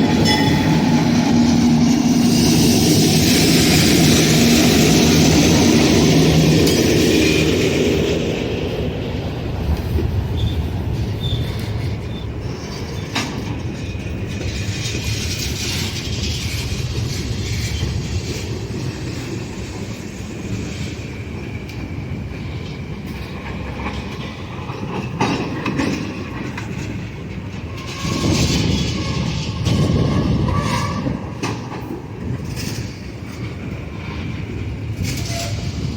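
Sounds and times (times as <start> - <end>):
train wheel squeals: 0.0 - 8.3, 9.8 - 35.9
train wheels clattering on track: 0.0 - 35.9.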